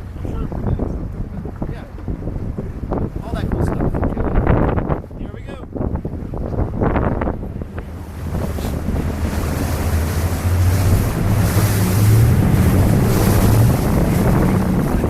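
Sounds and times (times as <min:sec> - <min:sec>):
boat engine droning: 0:00.0 - 0:15.0
water rushing: 0:00.0 - 0:15.0
wind buffeting microphone: 0:00.0 - 0:15.0.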